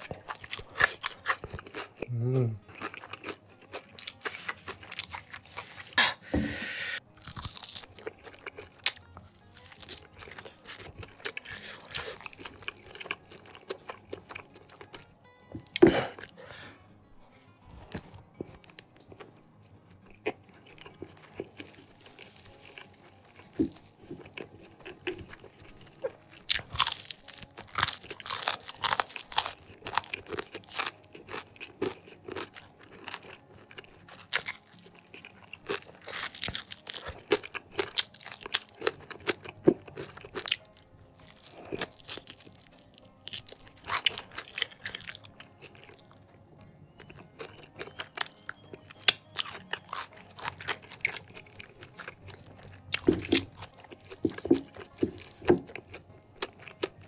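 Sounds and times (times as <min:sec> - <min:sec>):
crunchy chewing: 0:00.0 - 0:06.0, 0:07.0 - 0:16.6, 0:17.7 - 0:57.0.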